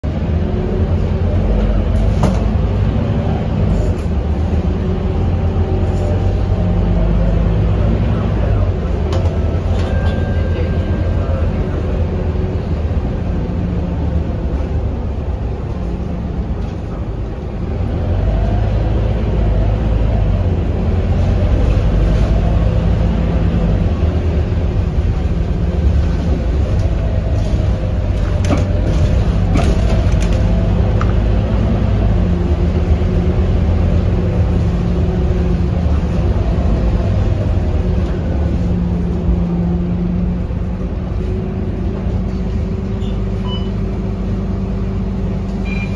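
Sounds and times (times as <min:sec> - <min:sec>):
bus diesel engine rumble: 0:00.0 - 0:45.9.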